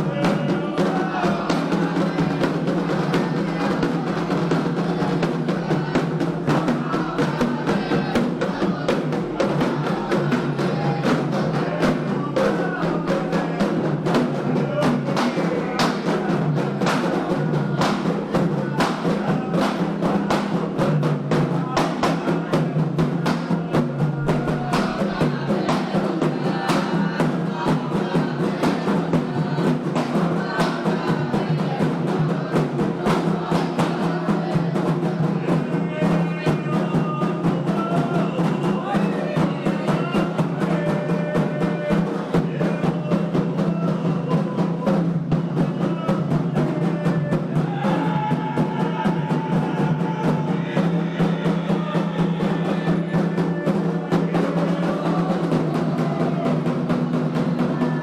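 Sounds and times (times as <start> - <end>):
hand drums playing fast rhythm: 0.0 - 58.0
voices chanting: 0.0 - 58.0.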